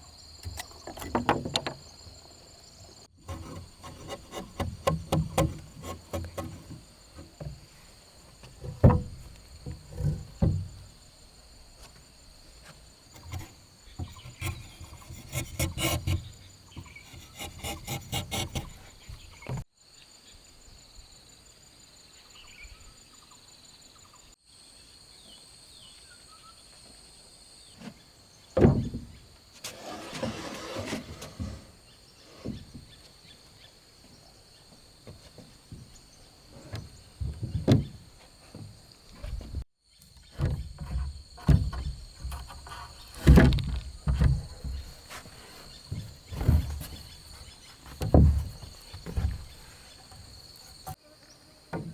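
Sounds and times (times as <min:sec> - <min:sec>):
insects chirring: 0:00.0 - 0:51.9
wooden parts knocking and scraping: 0:00.4 - 0:19.7, 0:27.8 - 0:51.0.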